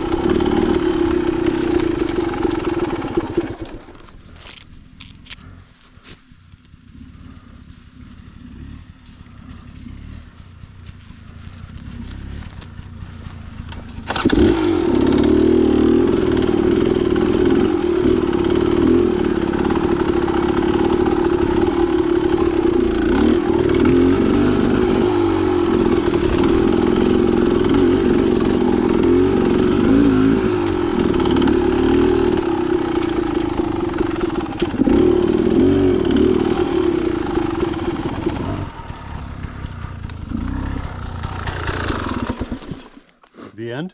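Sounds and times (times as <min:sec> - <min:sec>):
dirt bike engine running: 0:00.0 - 0:43.2.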